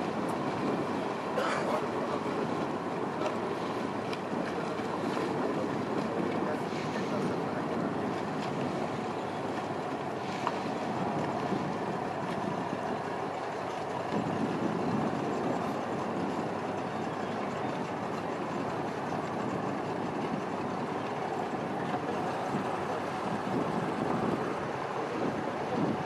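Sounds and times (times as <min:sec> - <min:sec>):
boat rumbling on water: 0:00.0 - 0:26.0
wind on microphone: 0:02.0 - 0:13.2, 0:13.9 - 0:26.0.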